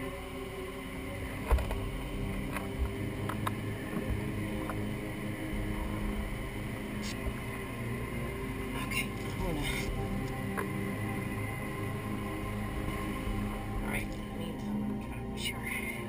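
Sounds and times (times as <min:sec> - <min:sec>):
electric thrusters humming: 0:00.0 - 0:16.0.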